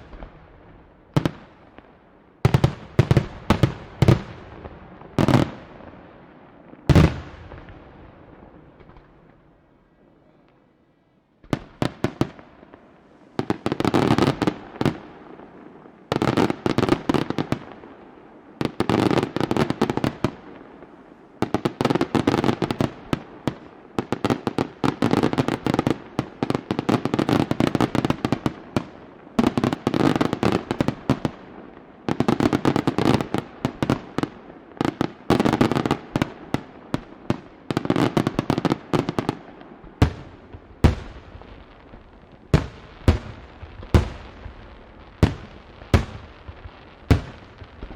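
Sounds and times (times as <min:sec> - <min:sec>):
crackling firework volleys: 0:00.0 - 0:10.7, 0:11.4 - 0:47.9.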